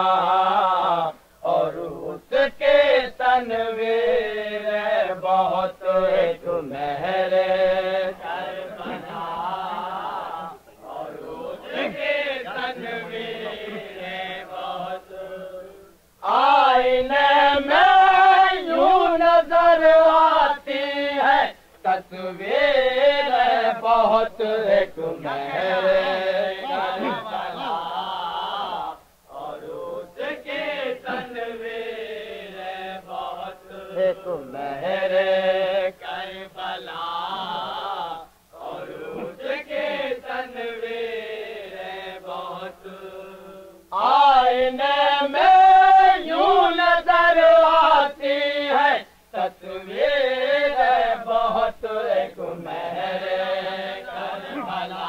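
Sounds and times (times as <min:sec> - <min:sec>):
men chanting: 0:00.0 - 0:55.0.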